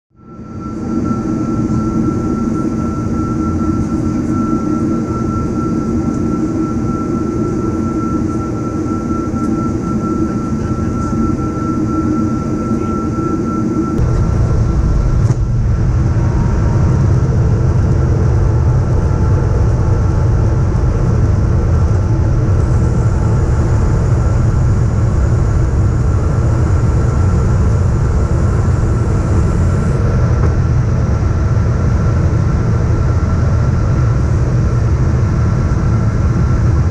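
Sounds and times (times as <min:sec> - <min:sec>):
engine and airflow rumble: 0:00.1 - 0:36.9.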